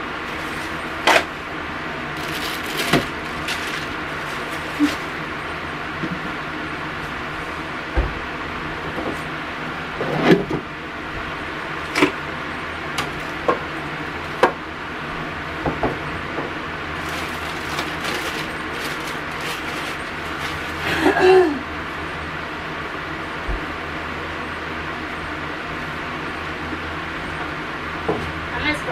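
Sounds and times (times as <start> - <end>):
refrigerator hum: 0.0 - 28.9.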